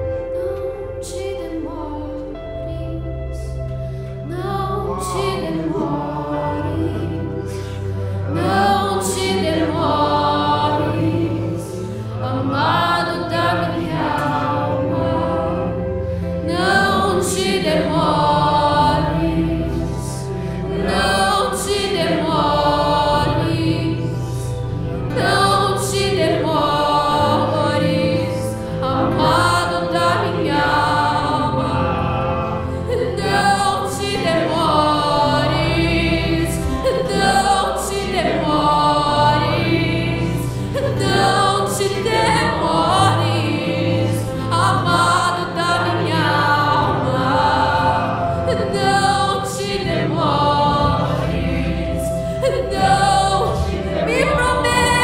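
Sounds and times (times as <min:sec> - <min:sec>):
woman singing: 0:00.0 - 0:03.6, 0:04.2 - 0:24.2, 0:32.9 - 0:55.0
group of voices singing: 0:00.0 - 0:55.0.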